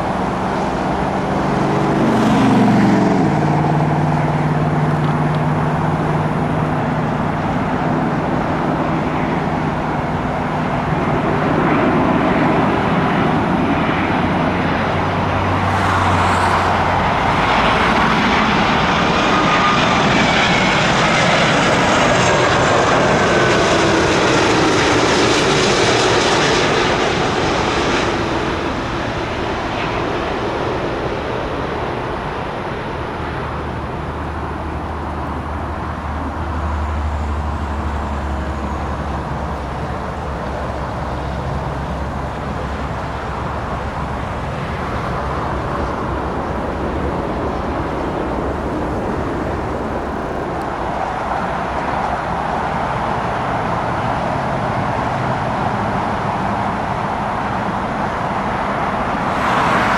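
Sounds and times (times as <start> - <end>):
jet airliner engines passing: 0.0 - 59.9.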